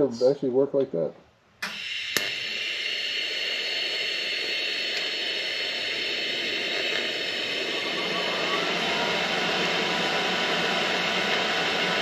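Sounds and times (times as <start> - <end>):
welding arc hissing: 1.6 - 12.0.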